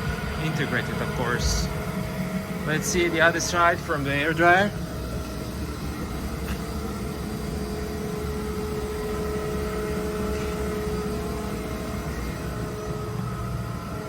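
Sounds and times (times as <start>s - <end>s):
air compressor hum: 0.0s - 14.0s
faint whine: 0.0s - 14.0s.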